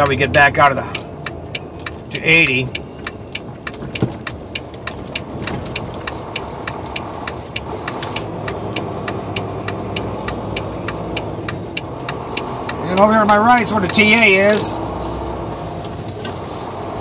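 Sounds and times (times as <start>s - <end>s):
steady ticking: 0.0s - 15.0s
truck diesel engine running: 0.0s - 17.0s.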